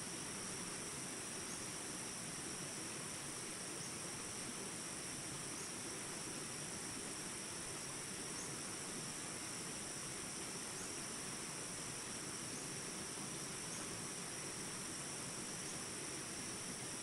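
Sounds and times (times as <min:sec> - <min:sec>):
flowing water hiss: 0:00.0 - 0:17.0
insects trilling: 0:00.0 - 0:17.0.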